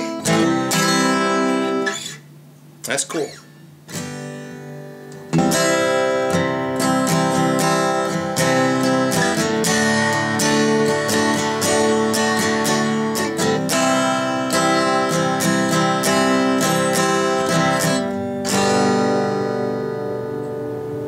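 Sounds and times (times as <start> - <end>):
strummed guitar chords: 0.0 - 21.0.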